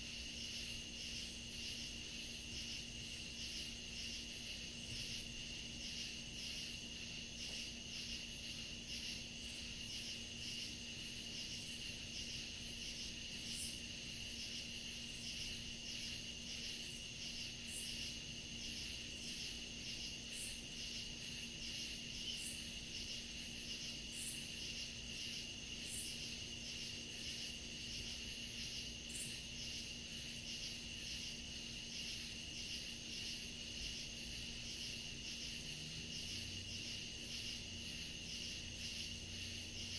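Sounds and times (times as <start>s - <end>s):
crickets trilling: 0.0s - 39.9s
pulsing cricket chirps: 0.0s - 39.9s.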